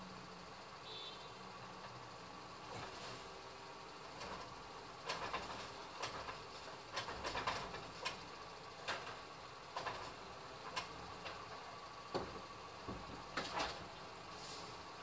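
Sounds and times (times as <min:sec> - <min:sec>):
truck idling with hydraulics: 0:00.0 - 0:15.0.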